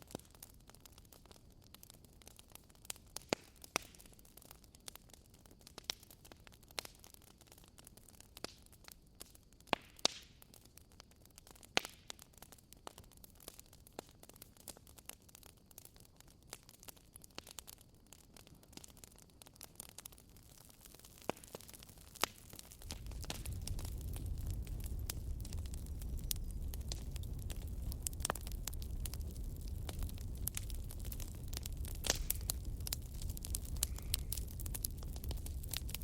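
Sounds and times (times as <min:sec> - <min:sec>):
bonfire crackling and popping: 0:00.0 - 0:36.0.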